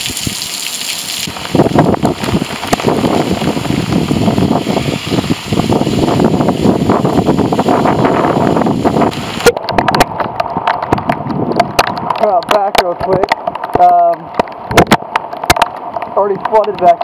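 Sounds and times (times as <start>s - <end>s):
heavy rain on microphone: 0.0s - 17.0s.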